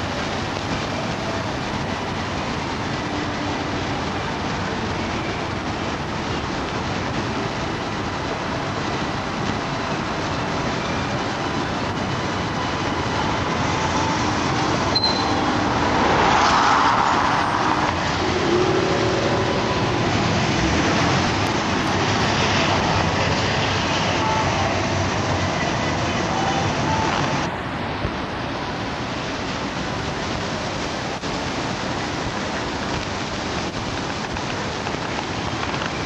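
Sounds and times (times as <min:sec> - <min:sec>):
traffic rumble: 0:00.0 - 0:36.0
tyres hissing on wet road: 0:00.0 - 0:36.0.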